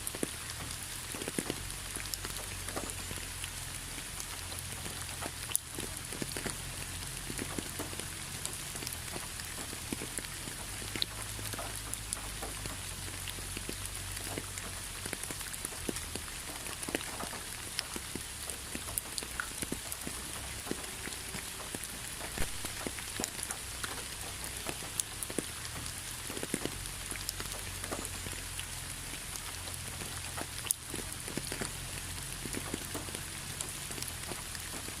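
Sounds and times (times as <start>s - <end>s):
rain drops ticking on hard surface: 0.0s - 35.0s.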